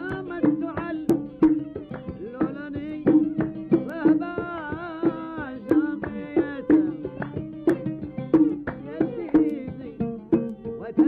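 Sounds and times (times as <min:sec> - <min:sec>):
oud plucked notes: 0:00.0 - 0:11.0
percussion strikes: 0:00.0 - 0:11.0.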